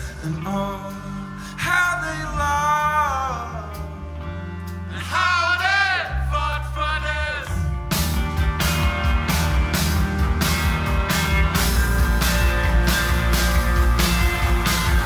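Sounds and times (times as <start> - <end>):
background music with bass: 0.0 - 15.0.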